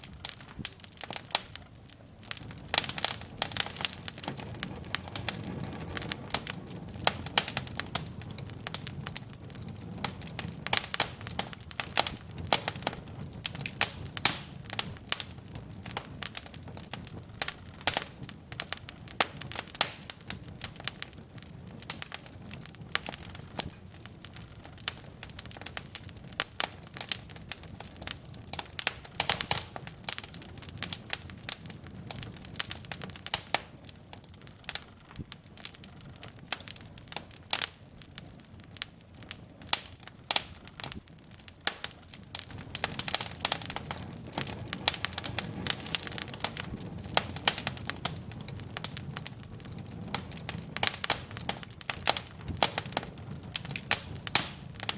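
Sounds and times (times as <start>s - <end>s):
logs crackling and popping: 0.0s - 54.9s
low rush of flame: 0.0s - 54.9s.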